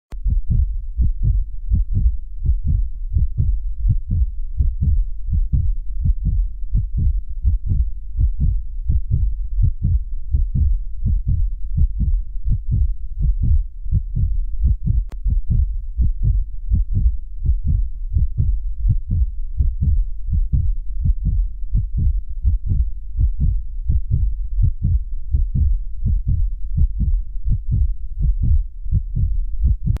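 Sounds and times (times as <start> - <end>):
low dull thuds: 0.2 - 30.0.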